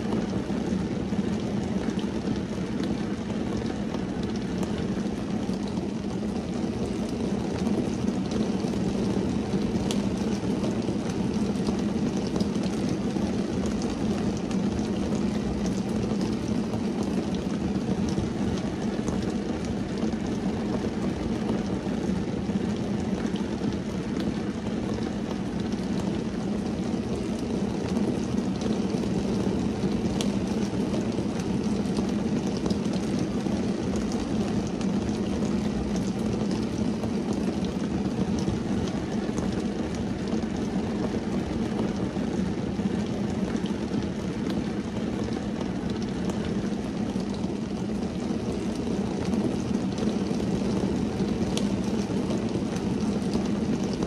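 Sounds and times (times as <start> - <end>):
rain on car roof: 0.0 - 54.0
sharp raindrop ticks: 1.4 - 42.1, 43.5 - 54.0.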